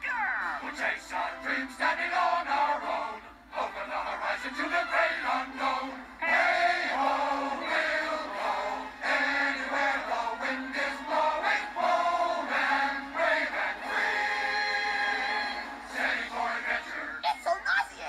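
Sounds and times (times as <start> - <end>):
chorus singing show tune: 0.0 - 18.0.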